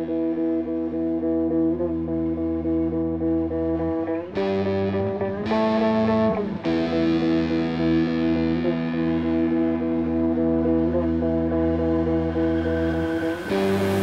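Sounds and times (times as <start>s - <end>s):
guitar background music: 0.0s - 14.0s.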